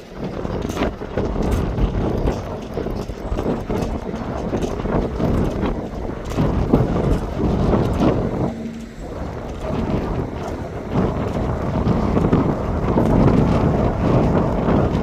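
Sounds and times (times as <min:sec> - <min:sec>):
jet engine rumble: 0:00.0 - 0:15.0
wind buffeting microphone: 0:00.0 - 0:15.0.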